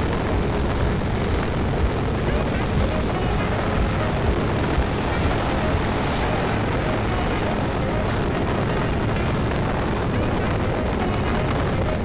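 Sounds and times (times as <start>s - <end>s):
scooter engine and road noise: 0.0s - 12.0s
wind buffeting microphone: 0.0s - 12.0s.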